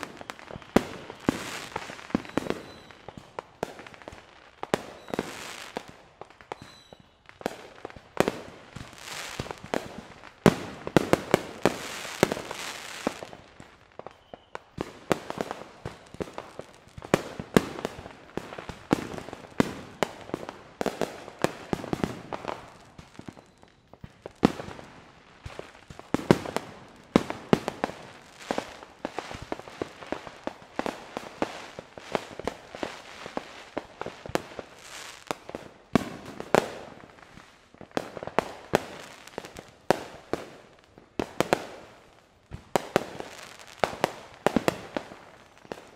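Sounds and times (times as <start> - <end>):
fireworks bangs and pops: 0.0 - 45.9
fireworks crackling and hissing: 0.0 - 45.9.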